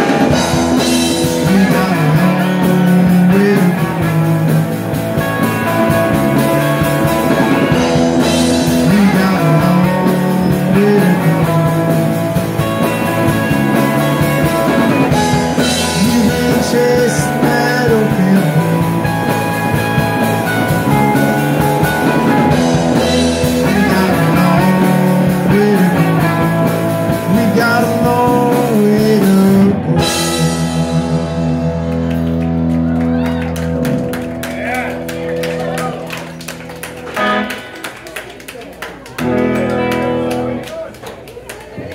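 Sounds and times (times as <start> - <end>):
drum kit: 0.0 - 37.8
electric bass: 0.0 - 38.0, 39.2 - 40.7
electric guitars: 0.0 - 41.9.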